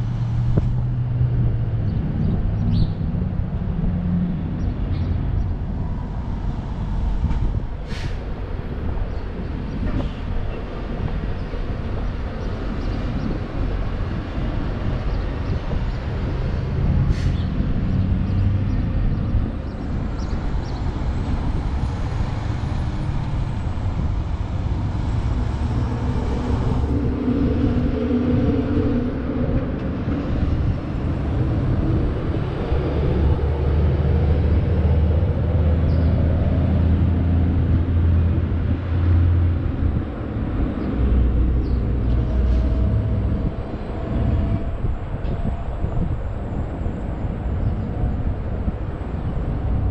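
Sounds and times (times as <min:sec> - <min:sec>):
low rumbling vehicle engine: 0:00.0 - 0:49.9.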